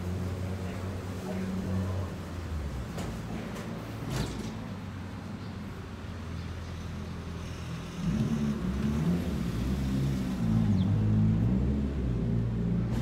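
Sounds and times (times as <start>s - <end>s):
low hum of traffic: 0.0s - 13.0s.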